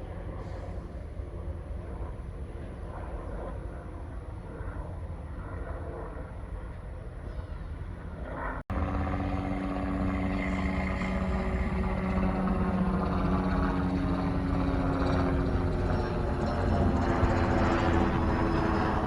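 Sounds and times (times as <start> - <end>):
large engine droning: 0.0 - 19.0
outdoor background noise: 0.0 - 19.0.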